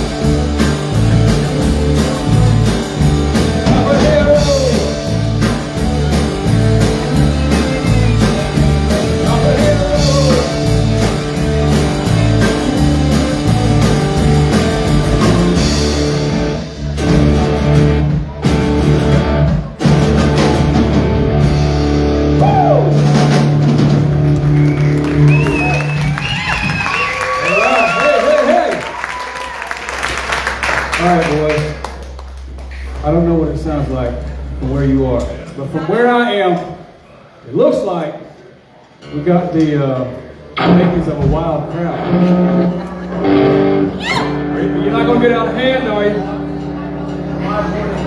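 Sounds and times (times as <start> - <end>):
live rock band playing: 0.0 - 35.6, 40.2 - 48.0.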